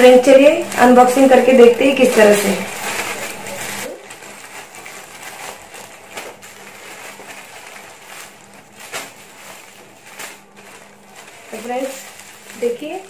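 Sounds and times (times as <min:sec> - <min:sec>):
plastic mailer rustling and tearing: 0:00.0 - 0:13.0.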